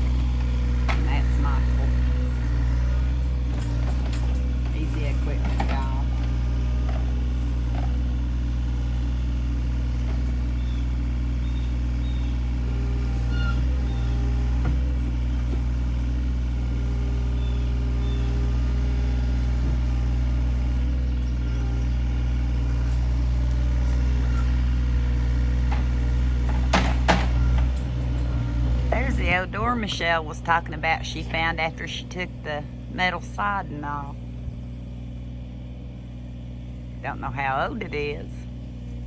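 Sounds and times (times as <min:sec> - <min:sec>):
engine droning steadily: 0:00.0 - 0:39.0.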